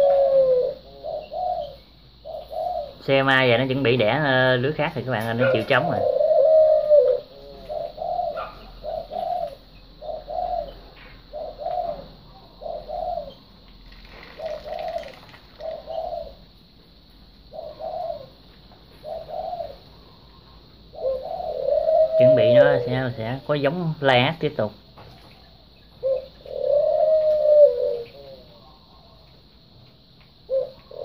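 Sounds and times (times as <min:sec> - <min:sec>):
bird calling: 0:00.0 - 0:31.0.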